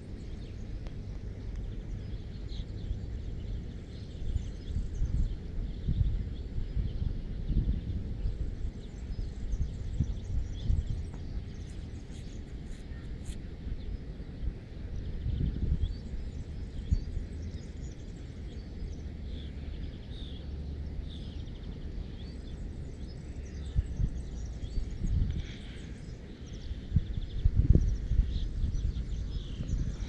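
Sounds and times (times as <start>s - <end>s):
low uneven rumble: 0.0s - 30.0s
small birds chirping: 0.0s - 30.0s.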